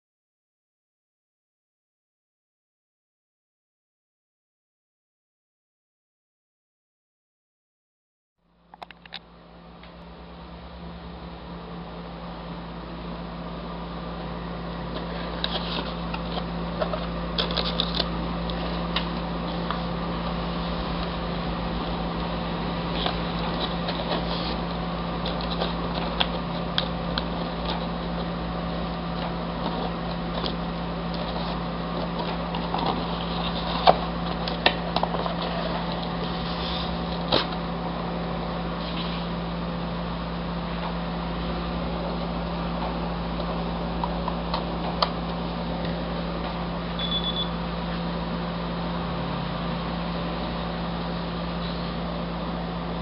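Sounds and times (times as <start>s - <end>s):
low mechanical hum: 8.4s - 53.0s.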